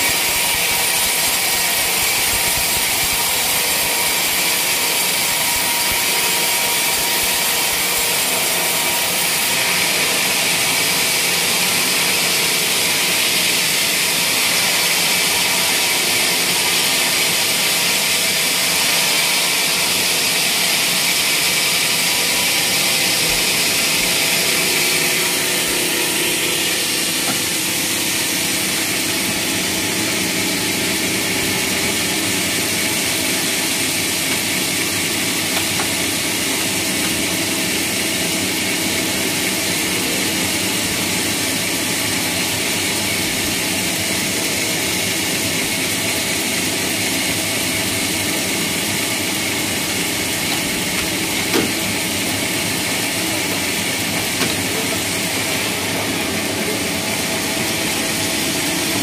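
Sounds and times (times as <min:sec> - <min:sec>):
sawmill mechanical drone: 0:00.0 - 0:59.0.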